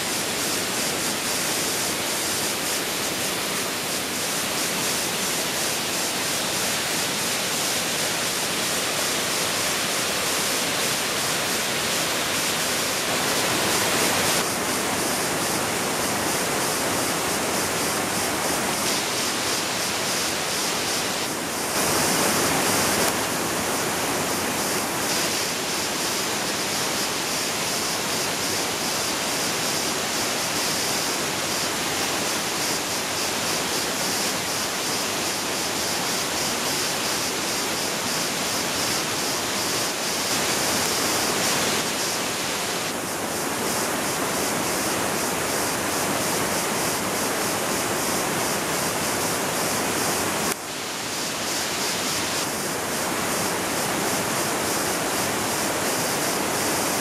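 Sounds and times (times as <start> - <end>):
water rushing in stream: 0.0 - 57.0.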